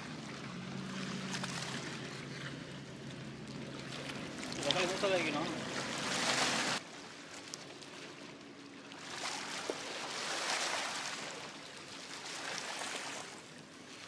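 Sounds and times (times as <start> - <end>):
small waves washing ashore: 0.0 - 14.0.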